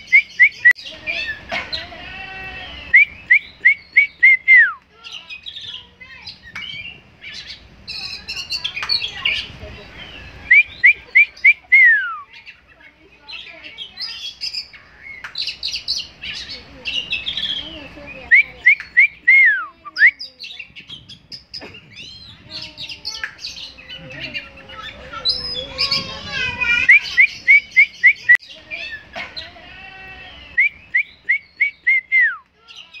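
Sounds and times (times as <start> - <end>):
bird singing chirps and trills: 0.0 - 33.0.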